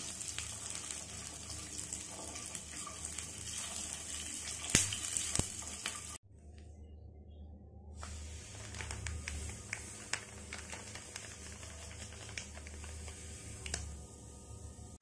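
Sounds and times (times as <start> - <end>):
hot ghee sizzling and popping: 0.0 - 6.2, 8.0 - 14.4.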